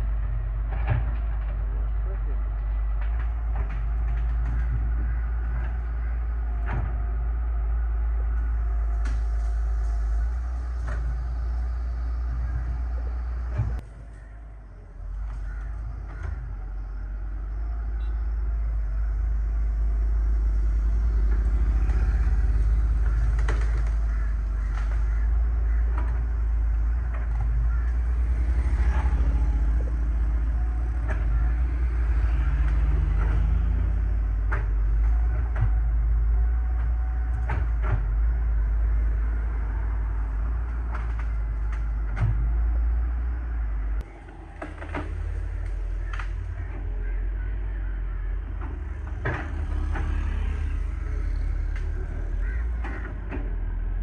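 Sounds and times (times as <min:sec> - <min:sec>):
excavator diesel engine rumbling: 0:00.0 - 0:54.0.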